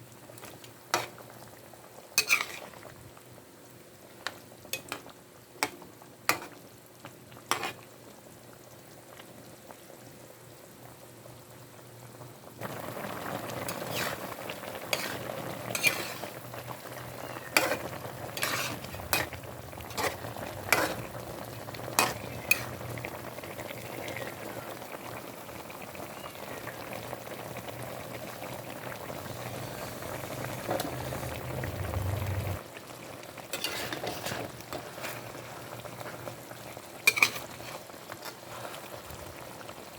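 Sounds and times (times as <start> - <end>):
food sizzling and bubbling: 0.0 - 39.9.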